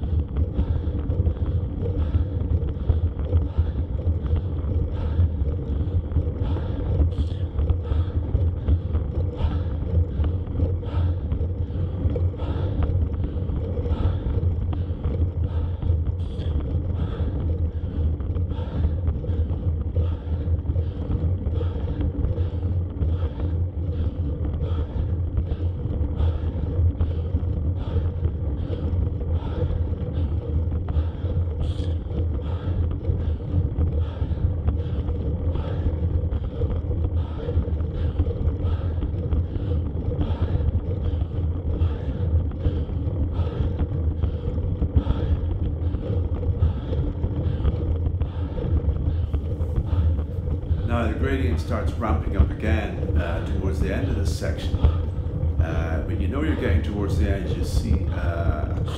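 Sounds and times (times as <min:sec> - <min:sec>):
bicycle tyre and road noise: 0:00.0 - 0:58.9
faint rhythmic pulse: 0:00.0 - 0:58.9
wind on microphone: 0:00.0 - 0:58.9.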